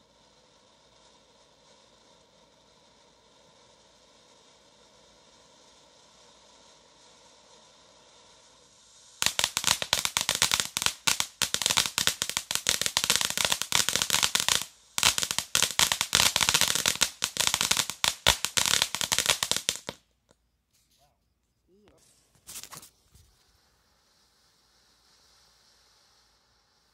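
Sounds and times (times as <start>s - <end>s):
firework hissing and crackling: 0.0s - 26.9s.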